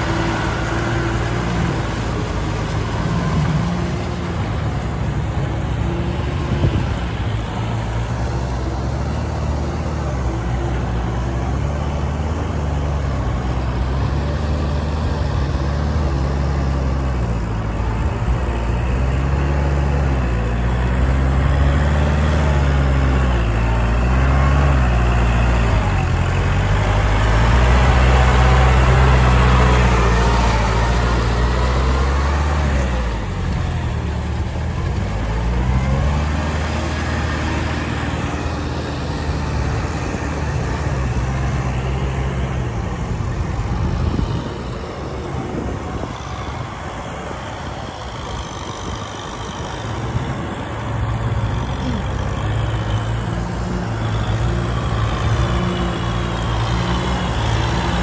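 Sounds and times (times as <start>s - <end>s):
tractor diesel engine drone: 0.0s - 58.0s.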